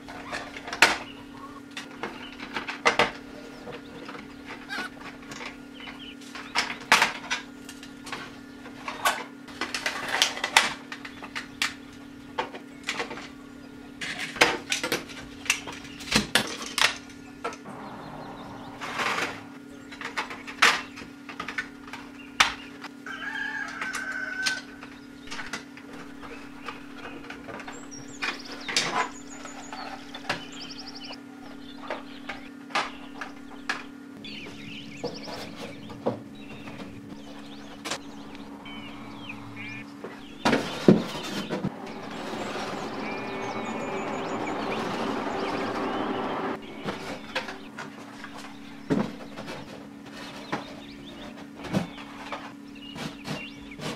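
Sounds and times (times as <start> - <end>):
steady low hum: 0.0 - 23.1, 24.5 - 53.9.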